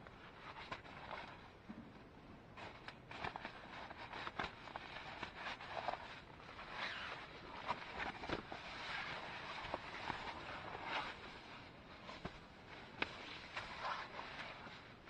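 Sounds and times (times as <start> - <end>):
sleeping pad rustling and scraping: 0.1 - 1.6, 2.5 - 15.0.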